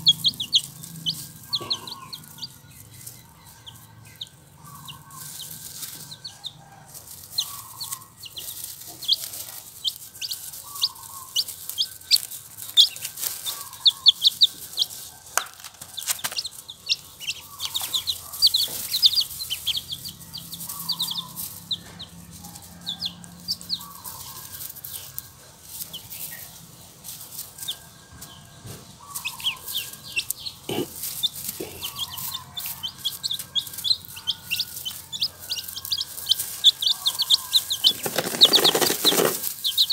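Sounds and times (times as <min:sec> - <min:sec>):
chicks and ducklings peeping: 0:00.0 - 0:39.9.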